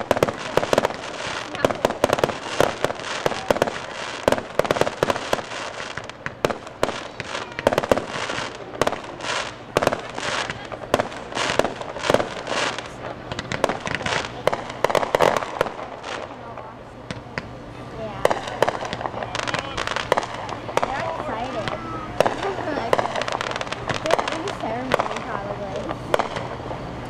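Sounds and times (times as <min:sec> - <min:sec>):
firework shells bursting: 0:00.0 - 0:16.4, 0:18.2 - 0:26.8.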